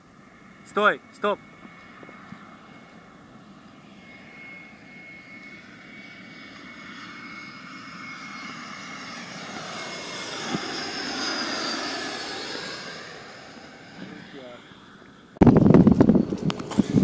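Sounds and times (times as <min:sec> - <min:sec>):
high engine whine: 0:00.0 - 0:17.0
jet airliner passing overhead: 0:00.0 - 0:17.0.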